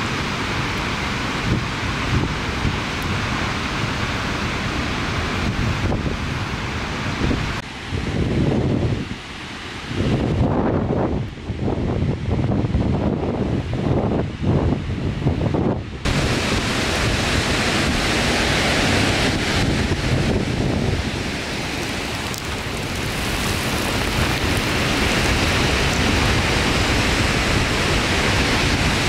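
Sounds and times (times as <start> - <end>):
waterfall roaring: 0.0 - 29.0
wind buffeting microphone: 1.4 - 29.0.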